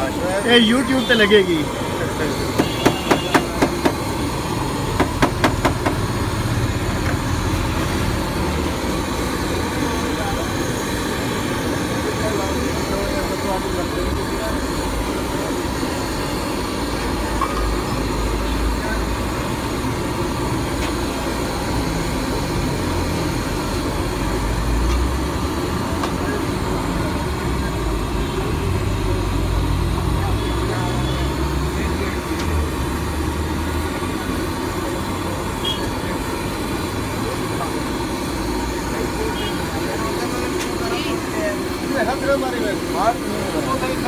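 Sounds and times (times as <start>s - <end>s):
low rumble of street traffic: 0.0s - 44.0s.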